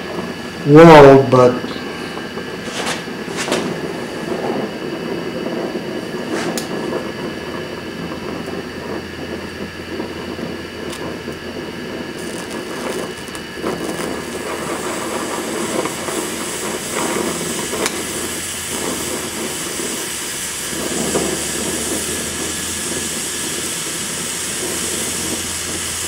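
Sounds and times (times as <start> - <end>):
welding torch flame hissing: 0.0 - 26.0.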